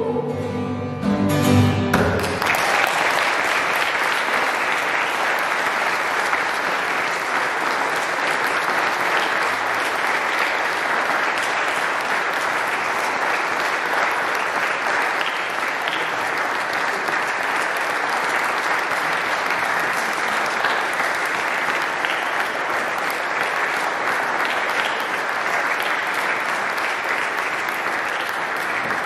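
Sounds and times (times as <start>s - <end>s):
audience applauding: 2.0s - 29.0s.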